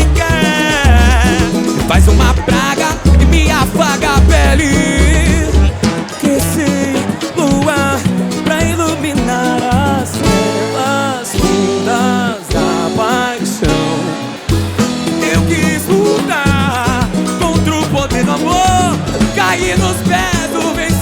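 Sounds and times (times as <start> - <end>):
person singing: 0.0 - 21.0
samba band playing live: 0.0 - 21.0.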